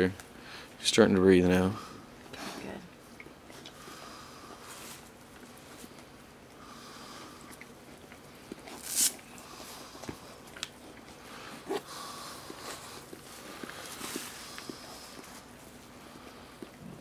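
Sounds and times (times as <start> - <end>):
dog licking puppy: 2.1 - 17.0.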